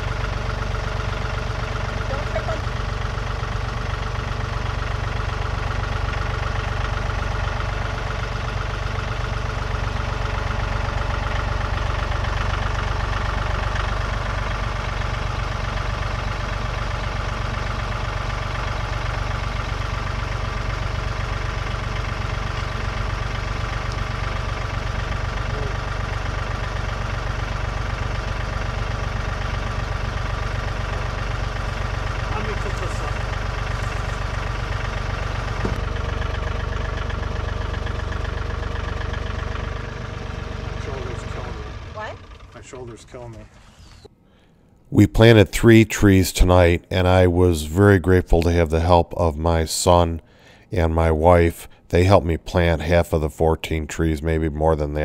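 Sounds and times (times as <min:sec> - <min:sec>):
heavy equipment engine rumbling: 0:00.0 - 0:55.0.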